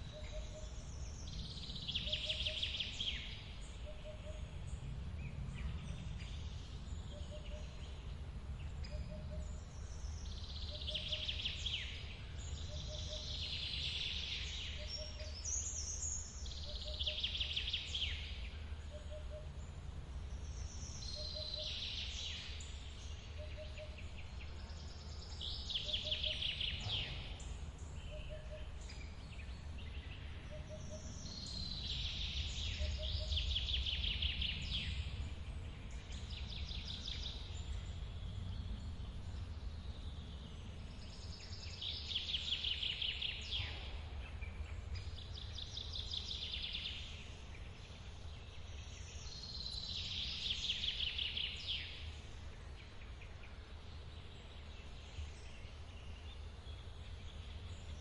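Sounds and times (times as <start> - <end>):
songbirds trilling: 0.0 - 58.0.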